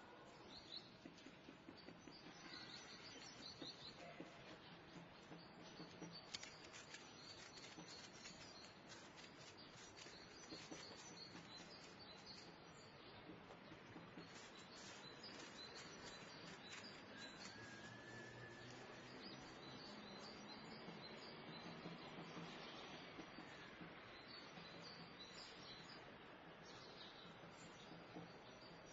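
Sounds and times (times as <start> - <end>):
small birds chirping: 0.0 - 28.9
small-town background hum: 0.0 - 28.9.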